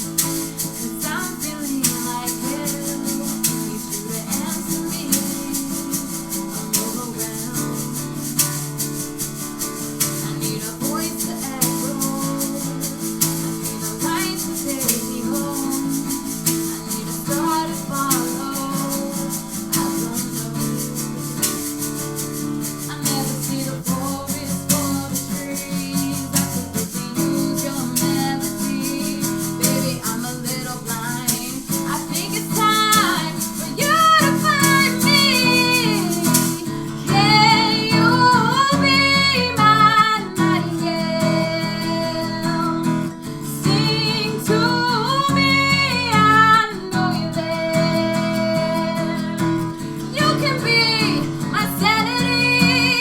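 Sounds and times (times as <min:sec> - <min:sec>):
acoustic guitar playing: 0:00.0 - 0:53.0
person singing vocal runs: 0:00.0 - 0:53.0
shaker rattle: 0:00.0 - 0:53.0.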